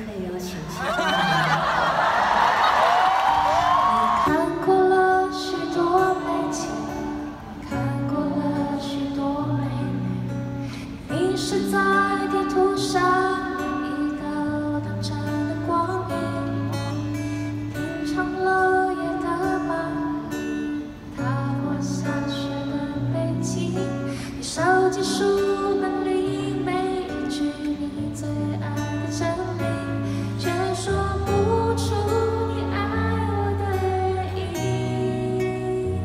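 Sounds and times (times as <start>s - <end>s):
acoustic guitar: 0.0s - 36.0s
woman singing: 3.6s - 36.0s.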